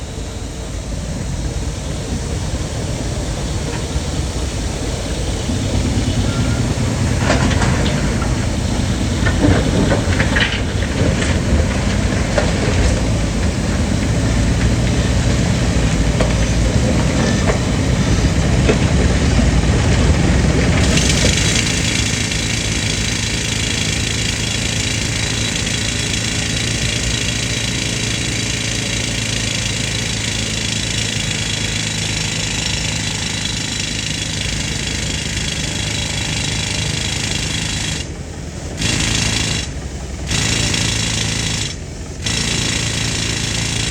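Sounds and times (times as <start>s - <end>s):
air compressor engine droning: 0.0s - 43.9s
engine knocks: 0.0s - 43.9s
pneumatic rock drill rattling: 0.0s - 43.9s.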